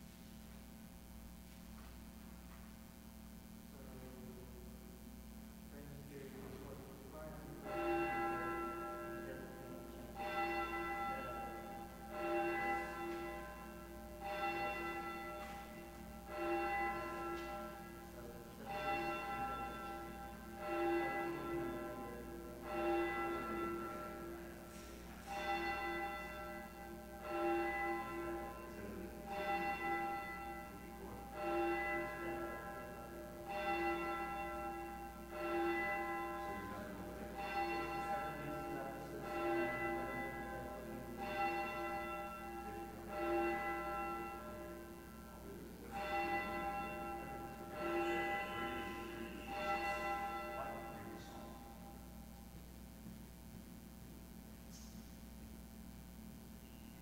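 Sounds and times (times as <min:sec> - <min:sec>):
church bell tolling: 0:03.6 - 0:57.0.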